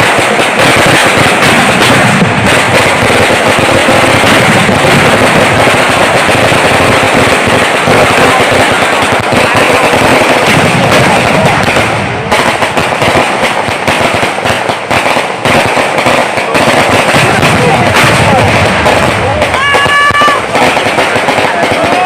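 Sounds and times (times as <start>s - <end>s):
firecrackers crackling and popping: 0.0s - 22.0s.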